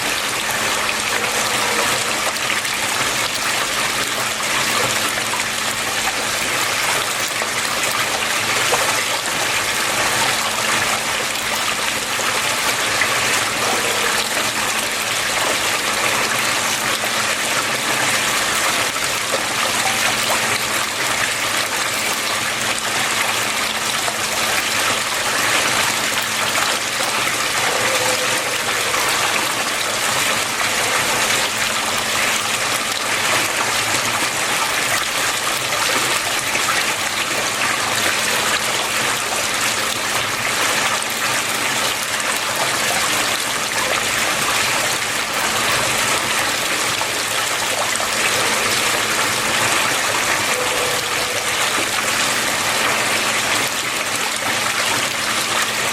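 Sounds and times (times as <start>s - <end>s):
water flowing: 0.0s - 55.9s.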